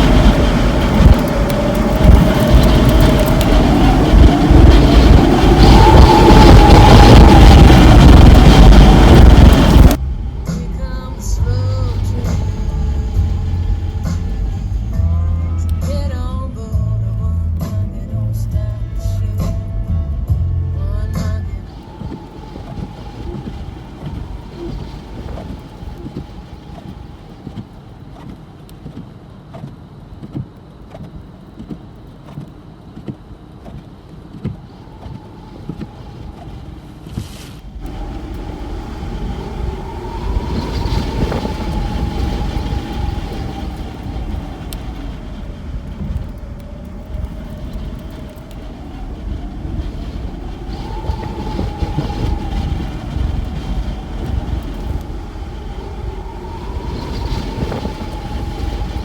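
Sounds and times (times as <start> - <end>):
howling wind tone: 0.0 - 29.4, 34.0 - 59.0
wind and road noise rumbling: 0.0 - 59.0.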